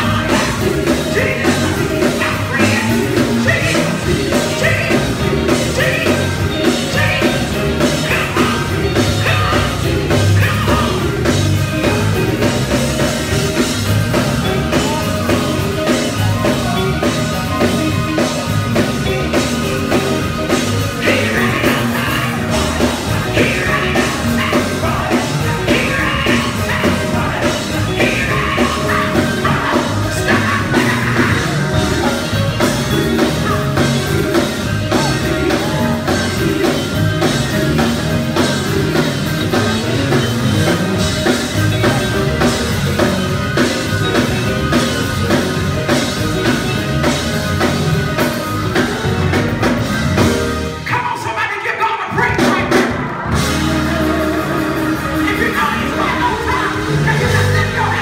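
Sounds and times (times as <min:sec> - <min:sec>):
electric guitar: 0:00.0 - 0:50.9, 0:52.1 - 0:58.0
drum kit: 0:00.0 - 0:58.0.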